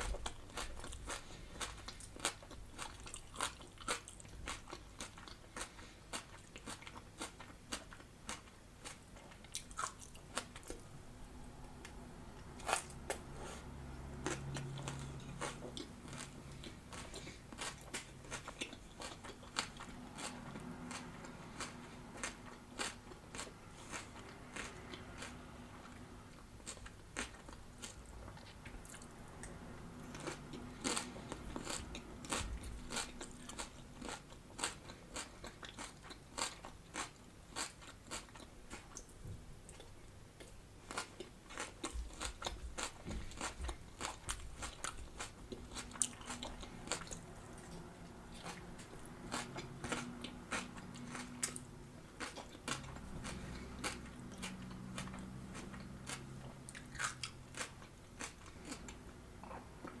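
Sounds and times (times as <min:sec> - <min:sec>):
crunchy salad chewing: 0:00.0 - 1:00.0.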